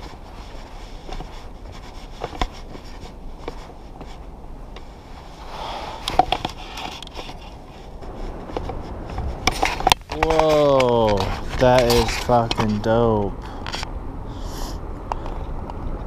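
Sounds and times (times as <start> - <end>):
footsteps crunching on rocky trail: 0.0 - 13.2.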